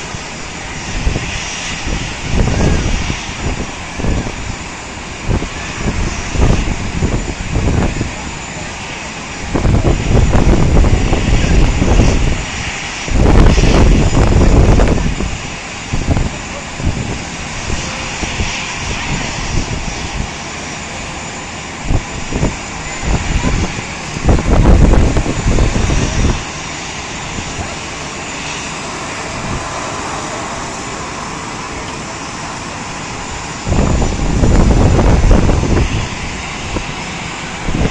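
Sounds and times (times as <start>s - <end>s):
jet aircraft noise: 0.0s - 37.9s
wind buffeting microphone: 0.0s - 37.9s.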